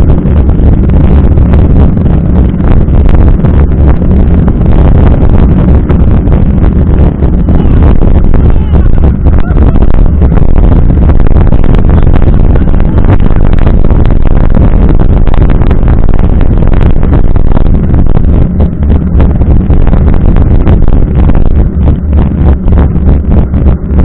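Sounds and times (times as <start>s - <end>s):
wind and road rumble: 0.0s - 24.0s.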